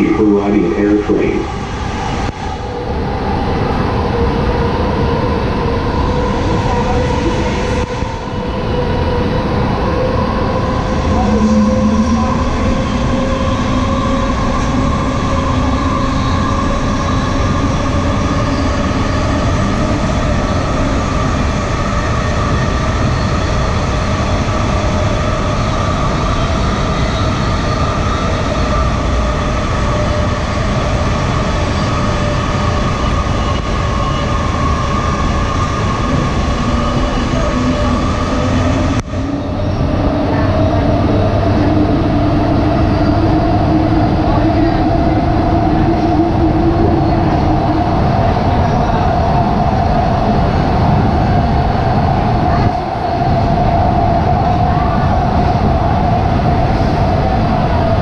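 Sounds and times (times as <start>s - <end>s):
multi-tone whine: 0.0s - 58.0s.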